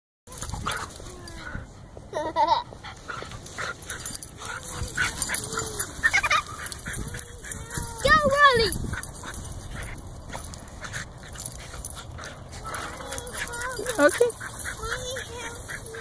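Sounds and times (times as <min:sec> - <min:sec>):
dogs crying playfully: 0:02.2 - 0:10.0, 0:10.8 - 0:16.0.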